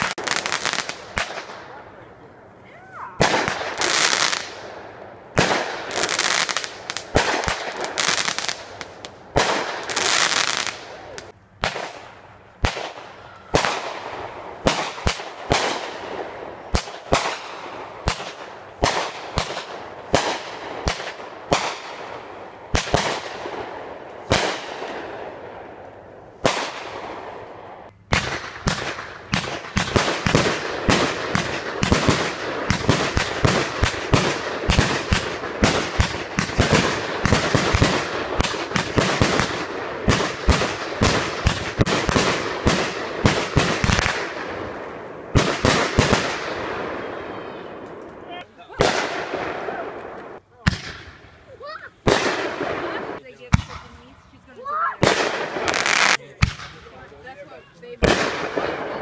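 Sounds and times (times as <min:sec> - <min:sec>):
fireworks bangs: 0:00.0 - 0:02.0, 0:02.7 - 0:59.0.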